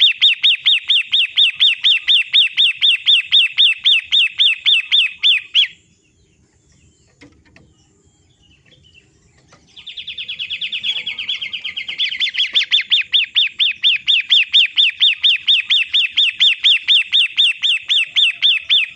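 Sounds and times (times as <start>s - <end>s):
bird calling sharp notes: 0.0s - 5.9s, 9.0s - 18.9s.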